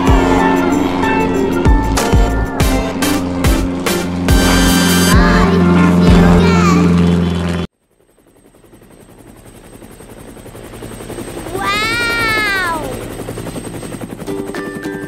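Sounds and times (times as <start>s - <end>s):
cartoon helicopter rotor chopping: 0.0s - 15.0s.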